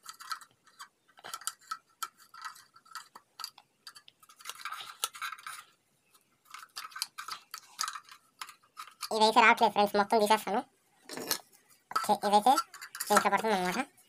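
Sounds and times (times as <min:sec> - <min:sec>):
scraping plastic: 0:00.0 - 0:09.4, 0:11.1 - 0:14.0.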